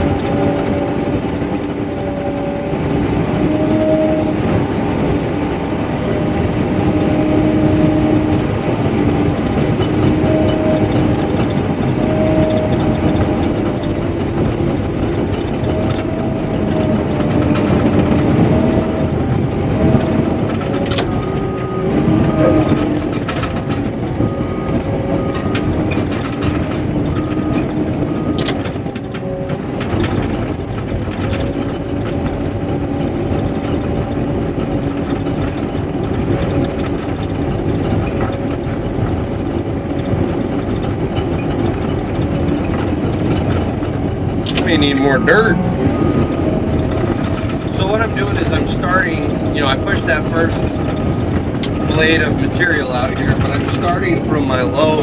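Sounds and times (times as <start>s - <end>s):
bulldozer diesel engine under load: 0.0s - 55.0s
steel tracks clanking: 0.0s - 55.0s
wavering whining tone: 0.0s - 55.0s.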